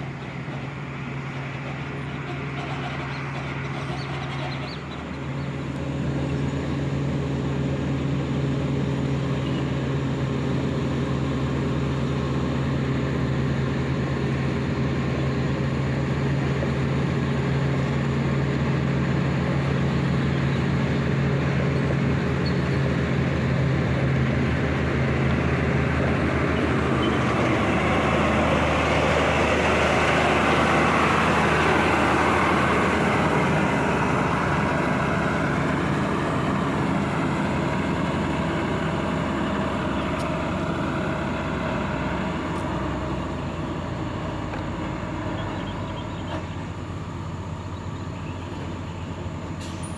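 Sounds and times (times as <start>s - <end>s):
diesel engine of heavy machinery: 0.0s - 49.9s.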